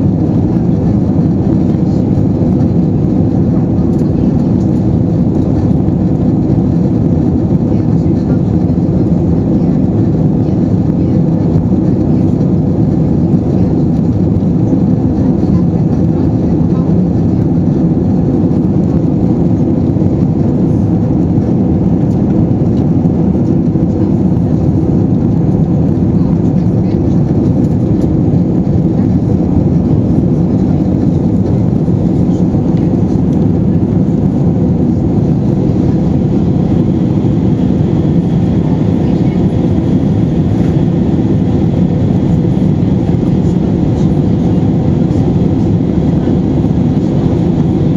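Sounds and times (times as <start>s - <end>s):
jet engine cabin rumble: 0.0s - 47.9s.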